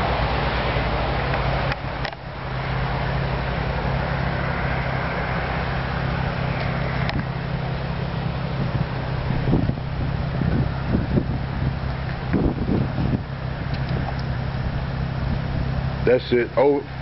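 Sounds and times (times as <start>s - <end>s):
machine drone: 0.0s - 17.0s.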